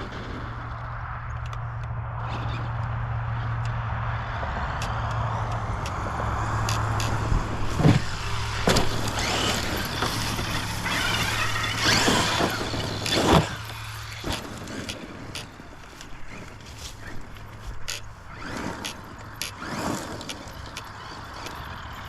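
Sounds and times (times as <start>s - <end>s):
rc truck motor whining: 0.0s - 22.0s
tyre and ground noise: 0.0s - 22.0s.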